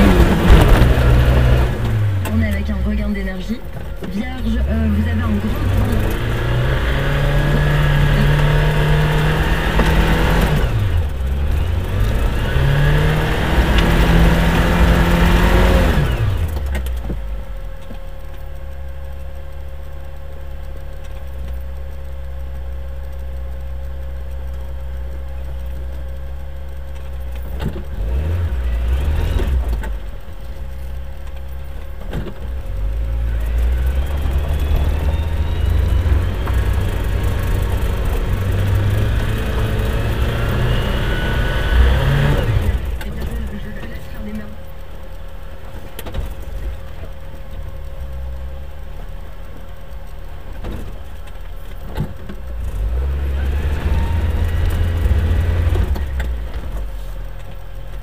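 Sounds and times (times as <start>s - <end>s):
off-road vehicle engine revving: 0.0s - 17.4s, 26.9s - 58.0s.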